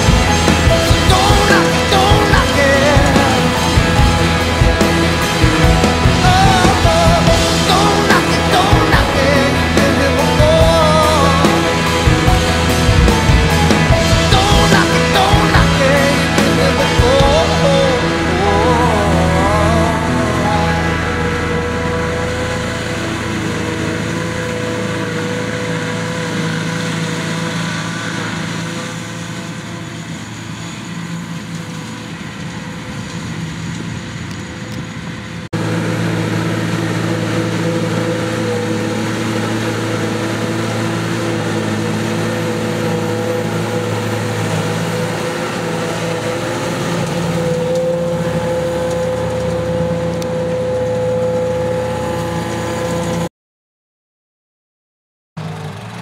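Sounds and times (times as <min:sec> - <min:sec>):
forage harvester chopping grass: 0:00.0 - 0:53.3
tractor engines droning: 0:00.0 - 0:53.3, 0:55.4 - 0:56.0.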